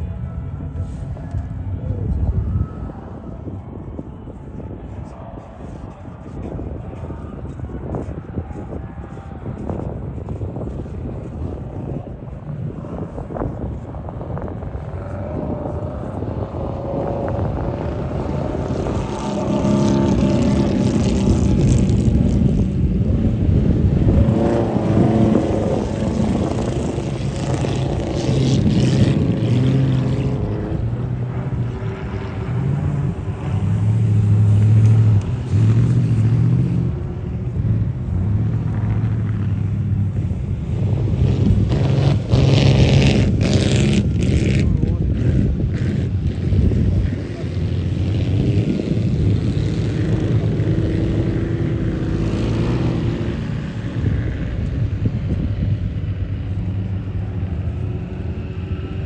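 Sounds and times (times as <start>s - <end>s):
classic cars driving past: 9.6s - 59.0s.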